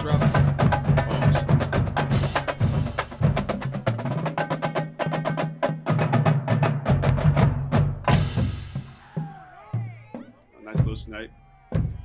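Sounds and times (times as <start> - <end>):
tom drums: 0.0 - 12.0.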